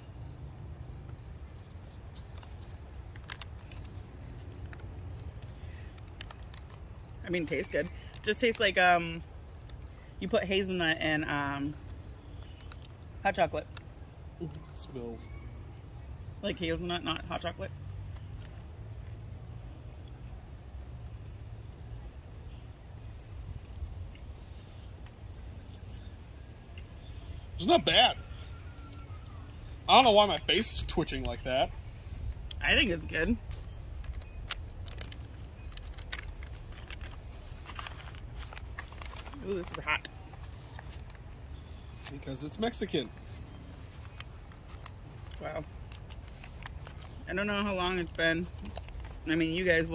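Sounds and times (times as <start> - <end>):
crickets chirping: 0.0 - 49.9.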